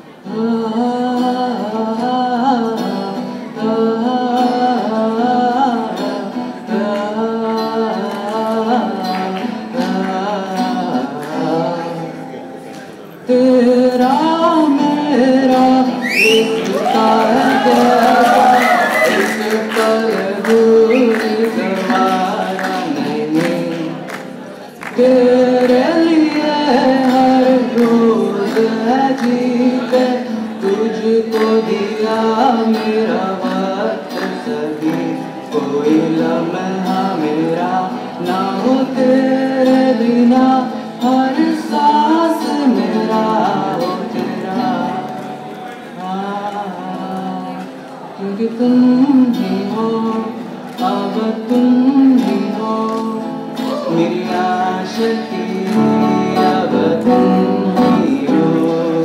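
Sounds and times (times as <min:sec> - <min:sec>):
acoustic guitar: 0:00.0 - 0:59.0
man singing: 0:00.0 - 0:59.0.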